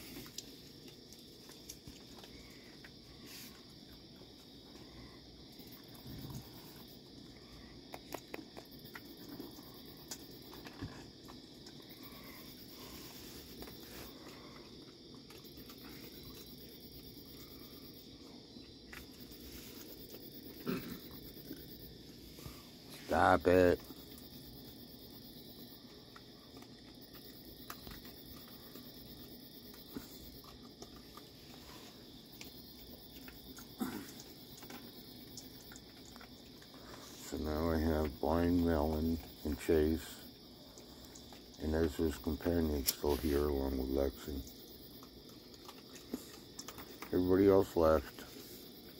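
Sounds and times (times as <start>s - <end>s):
animals eating from metal bowls: 0.0s - 48.9s
crickets chirping: 0.0s - 48.9s.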